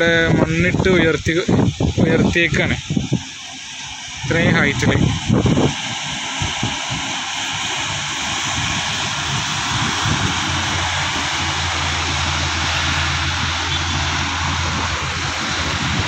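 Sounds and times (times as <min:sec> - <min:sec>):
highway traffic rushing: 0:00.0 - 0:16.0
truck engine drone: 0:00.0 - 0:16.0.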